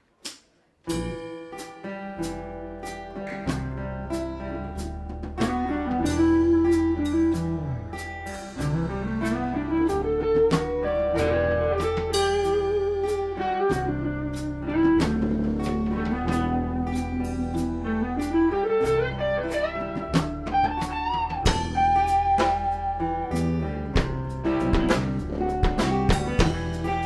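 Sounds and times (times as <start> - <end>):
drum kit steady beat: 0.0 - 27.0
band playing instrumental: 0.9 - 27.0
sliding guitar line: 0.9 - 27.0.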